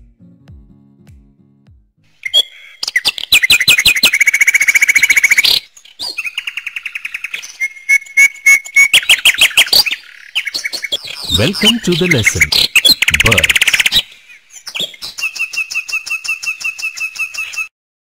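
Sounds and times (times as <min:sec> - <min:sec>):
songbirds chirping and trilling: 0:02.2 - 0:17.7.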